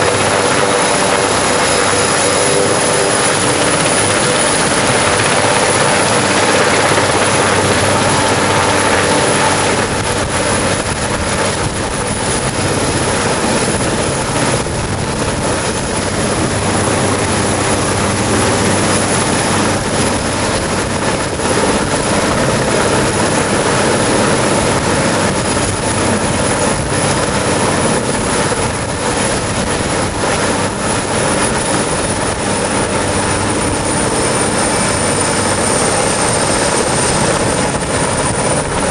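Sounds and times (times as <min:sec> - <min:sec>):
helicopter rotor and turbine roar: 0:00.0 - 0:38.9.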